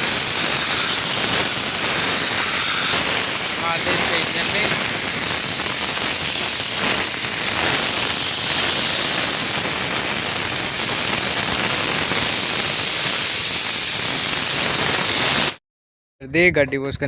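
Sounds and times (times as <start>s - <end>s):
spray gun hissing: 0.0s - 15.6s.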